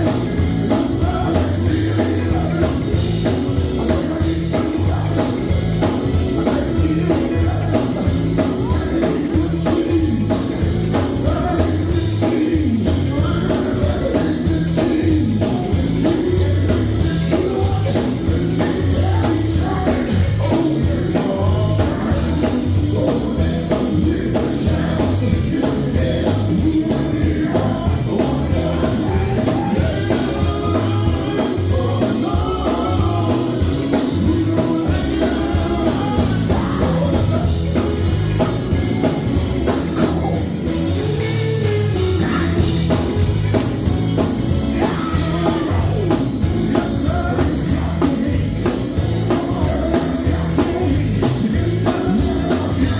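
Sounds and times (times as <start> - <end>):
live gospel band playing: 0.0 - 52.9
person singing: 0.0 - 52.9.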